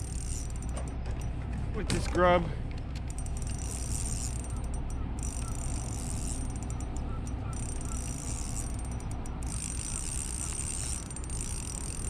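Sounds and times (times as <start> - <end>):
water around a kayak: 0.0 - 12.0.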